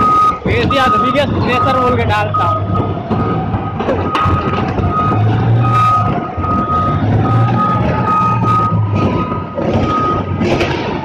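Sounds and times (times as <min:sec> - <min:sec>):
diesel engine running: 0:00.0 - 0:11.0
reversing alarm beeping: 0:00.0 - 0:11.0.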